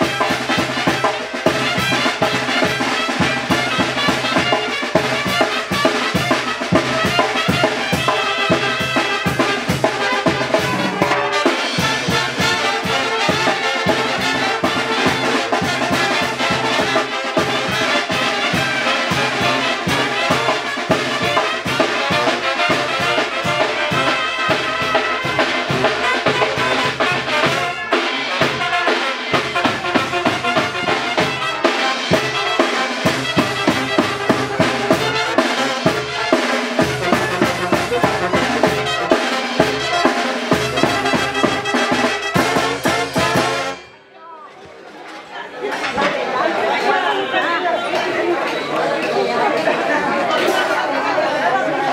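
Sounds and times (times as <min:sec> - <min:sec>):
wind instruments: 0:00.0 - 0:44.2
drums keeping a steady beat: 0:00.0 - 0:51.9.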